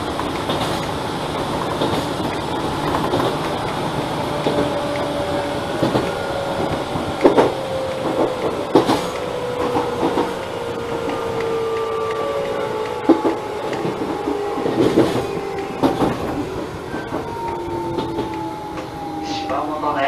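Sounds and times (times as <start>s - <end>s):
wheels clacking over rail joints: 0.0s - 19.2s
train motor whine: 0.0s - 20.0s
train rolling noise: 0.0s - 20.0s.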